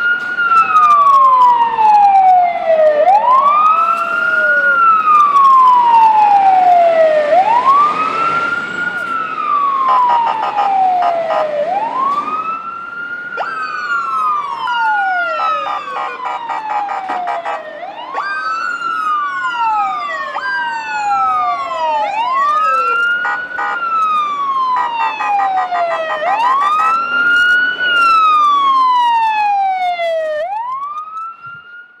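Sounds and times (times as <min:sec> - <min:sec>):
fast pulsing siren: 0:00.0 - 0:32.0
fire truck siren wailing: 0:00.0 - 0:32.0.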